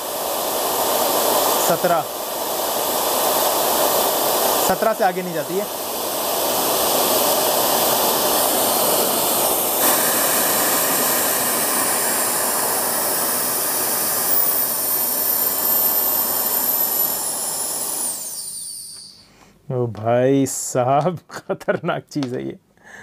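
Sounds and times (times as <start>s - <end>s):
hair dryer motor whining: 0.0s - 19.2s.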